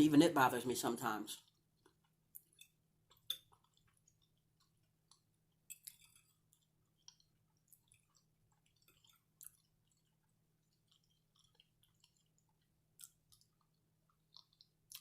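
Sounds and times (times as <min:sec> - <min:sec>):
person chewing food: 0:01.4 - 0:15.0.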